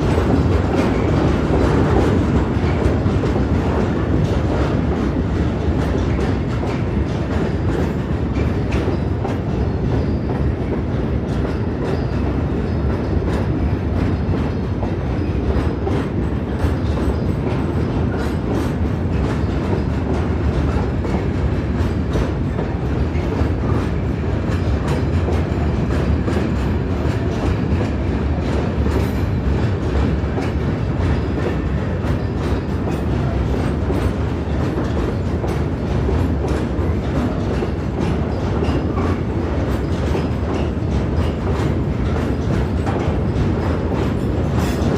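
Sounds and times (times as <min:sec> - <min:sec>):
train rumbling on track: 0:00.0 - 0:44.9
wheels clicking over rail joints: 0:00.0 - 0:44.9.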